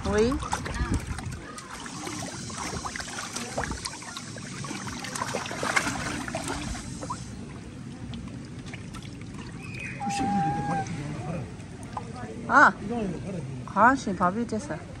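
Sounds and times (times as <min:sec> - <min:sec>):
water splashing and trickling: 0:00.0 - 0:14.2.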